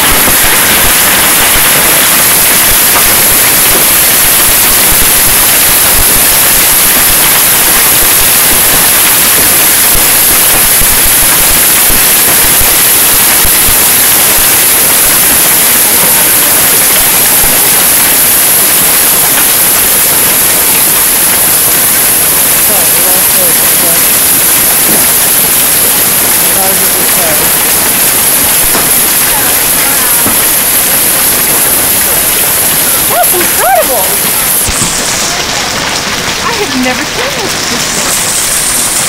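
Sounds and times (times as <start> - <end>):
hail on metal roof: 0.0 - 39.0.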